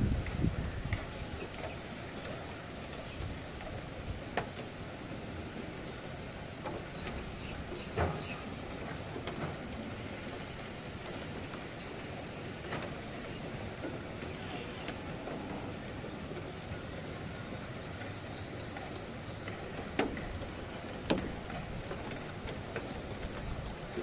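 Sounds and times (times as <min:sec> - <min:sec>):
heavy rain and wind hiss: 0:00.0 - 0:24.0.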